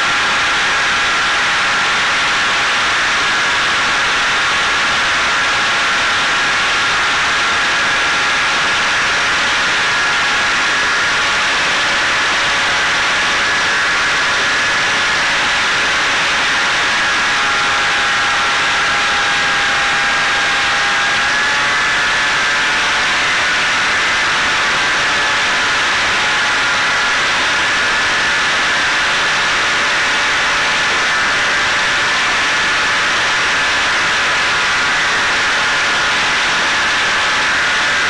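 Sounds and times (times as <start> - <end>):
drone motor whine: 0.0 - 38.0.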